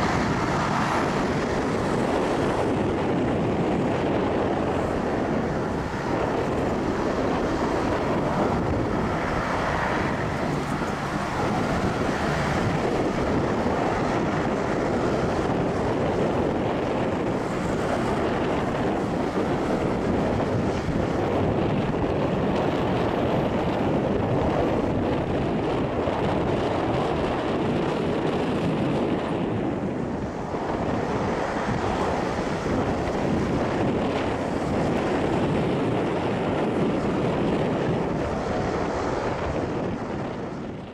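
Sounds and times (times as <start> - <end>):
jet engines roaring at takeoff: 0.0 - 40.9.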